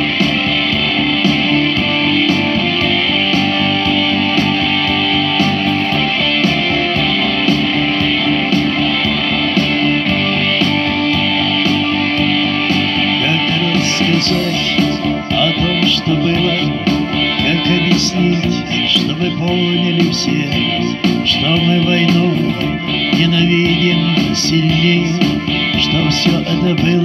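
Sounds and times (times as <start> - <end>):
electric guitar over beat: 0.0 - 27.0.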